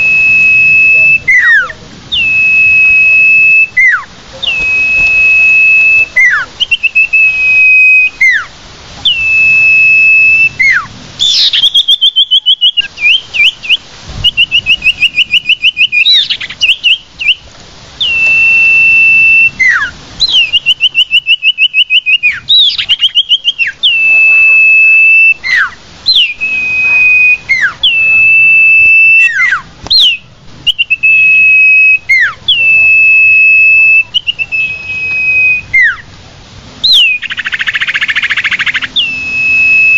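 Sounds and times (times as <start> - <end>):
bird trilled notes: 0.0 - 17.4, 18.0 - 36.1, 36.8 - 39.9
bird whistled notes: 0.0 - 36.1, 36.8 - 39.9.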